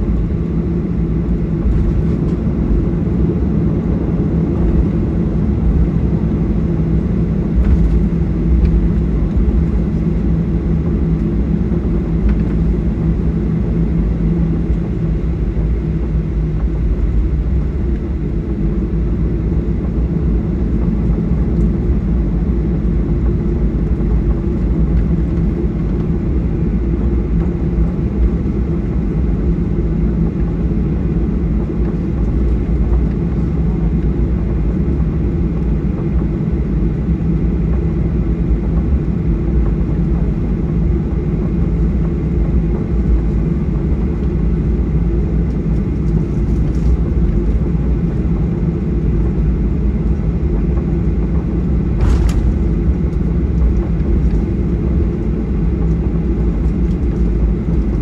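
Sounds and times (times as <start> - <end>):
jet engine cabin drone: 0.0 - 58.0.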